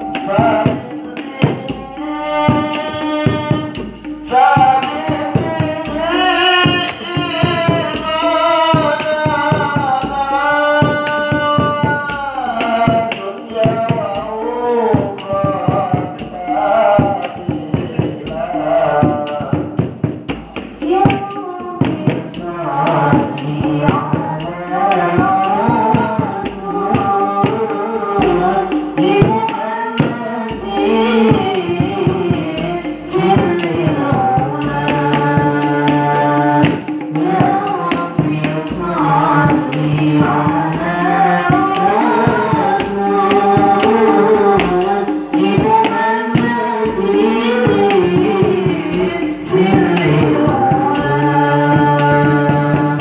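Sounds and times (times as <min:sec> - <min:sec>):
frame drums: 0:00.0 - 0:53.0
hand drums: 0:00.0 - 0:53.0
person singing into a microphone: 0:00.0 - 0:53.0.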